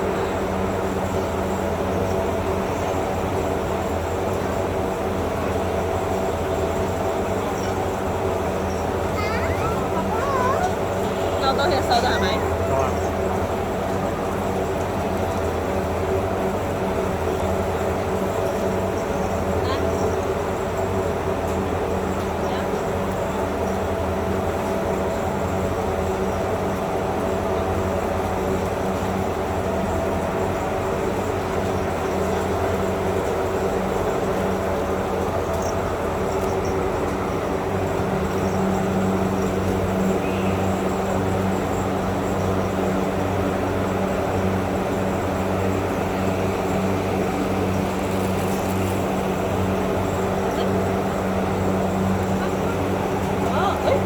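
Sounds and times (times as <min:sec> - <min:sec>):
steady motor hum: 0:00.0 - 0:54.0.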